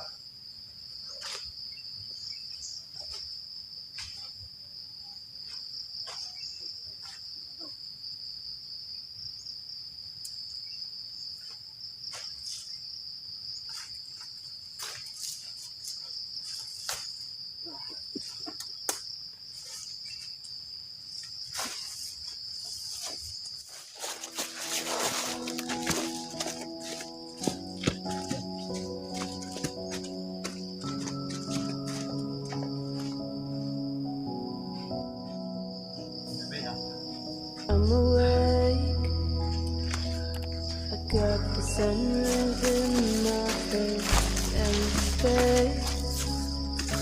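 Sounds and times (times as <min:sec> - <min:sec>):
crickets chirring: 0:00.0 - 0:47.0.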